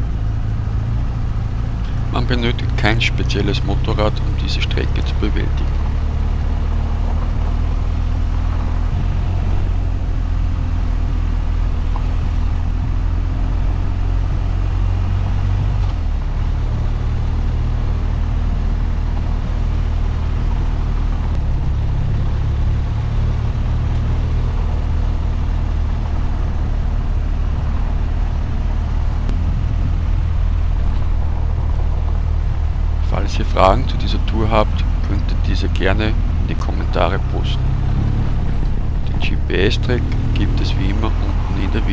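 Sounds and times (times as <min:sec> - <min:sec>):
motorcycle engine running: 0:00.0 - 0:41.9
wind noise: 0:00.0 - 0:41.9.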